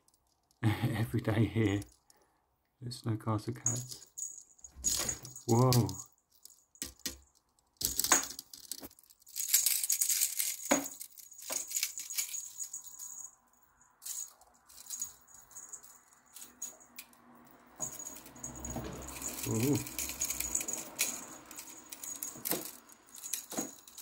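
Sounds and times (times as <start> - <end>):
cat toy rattling and jingling: 3.7 - 24.0.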